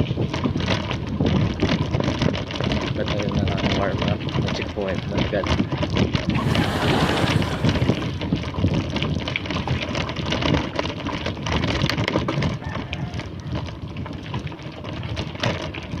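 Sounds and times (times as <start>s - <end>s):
rustling with clicks and crackles: 0.0s - 16.0s.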